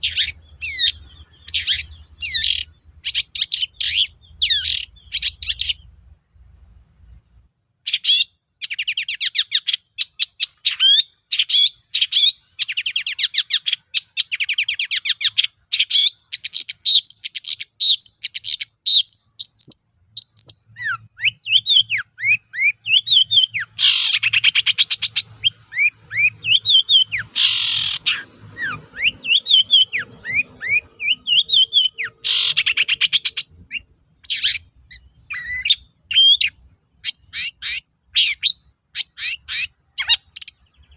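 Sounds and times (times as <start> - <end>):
bird singing trills and whistles: 0.0 - 40.9
harsh rasping bird calls: 0.0 - 40.9.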